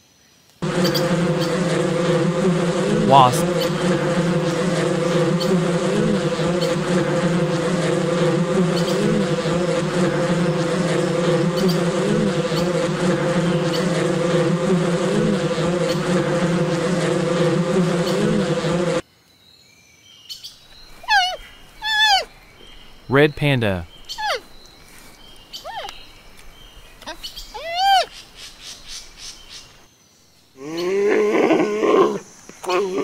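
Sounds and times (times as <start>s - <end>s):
wasps buzzing in a swarm: 0.6s - 19.0s, 20.8s - 33.0s.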